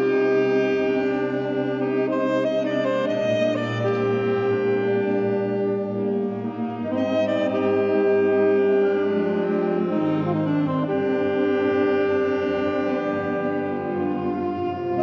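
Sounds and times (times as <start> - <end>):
alto saxophone solo: 0.0 - 15.0
wind band accompaniment: 0.0 - 15.0.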